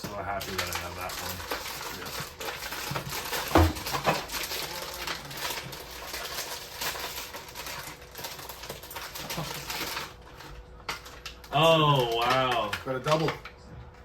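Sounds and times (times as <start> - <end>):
cardboard and plastic rustling: 0.0 - 14.0.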